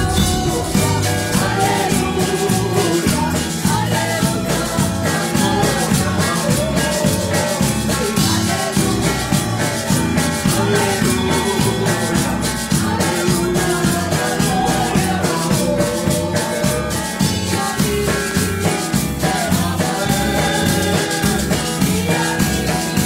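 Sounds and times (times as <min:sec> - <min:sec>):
electric bass: 0:00.0 - 0:23.0
steady beat: 0:00.0 - 0:23.0
woman singing into a microphone: 0:00.0 - 0:23.0.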